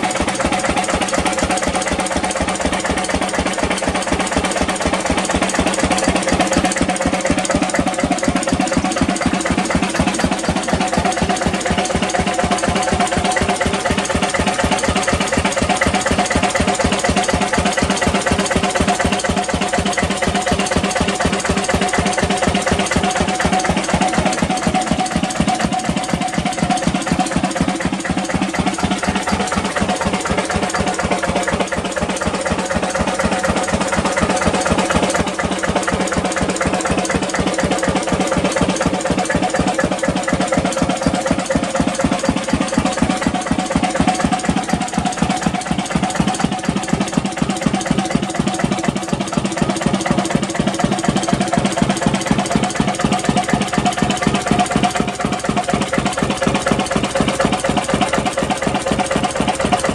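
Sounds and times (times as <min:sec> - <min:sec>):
stationary diesel engine running: 0:00.0 - 0:59.9.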